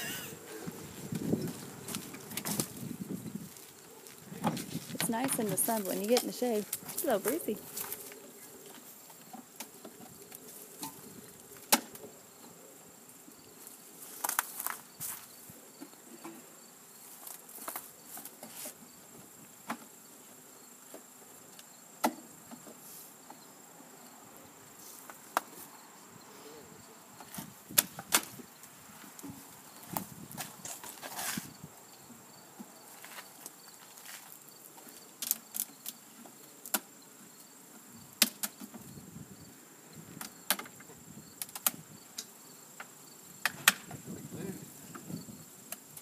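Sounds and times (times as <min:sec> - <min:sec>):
insects buzzing and chirping: 0:00.0 - 0:46.0.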